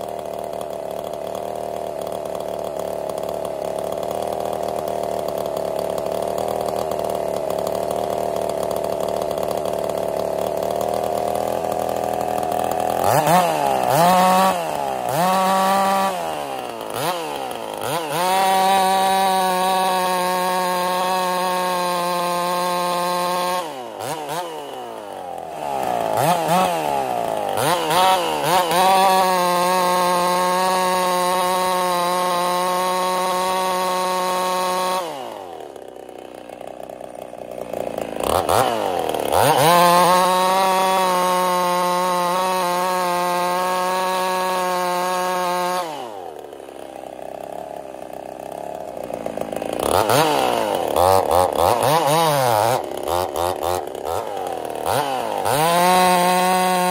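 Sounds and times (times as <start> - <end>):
chainsaw cutting at full throttle: 0.0 - 56.9.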